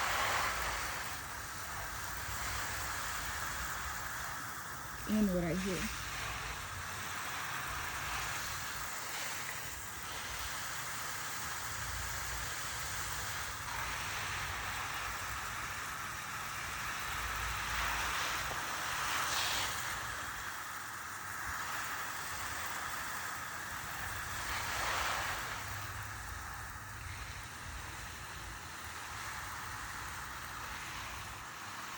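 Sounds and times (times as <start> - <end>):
hose spray hissing on plants: 0.0 - 31.9.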